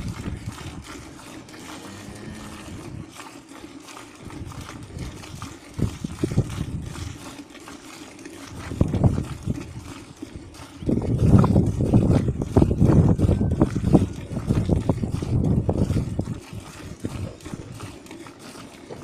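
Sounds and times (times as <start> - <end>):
milk squirting into a bucket: 0.0 - 19.0.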